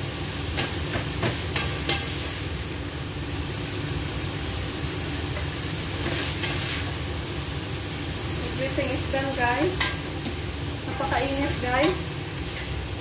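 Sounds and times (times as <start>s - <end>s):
food sizzling in pan: 0.0s - 13.0s
range hood fan drone: 0.0s - 13.0s.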